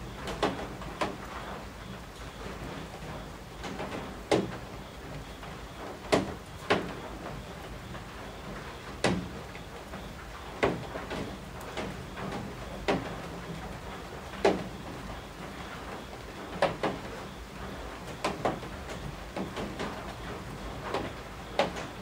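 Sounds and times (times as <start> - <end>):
rain hiss: 0.0 - 22.0.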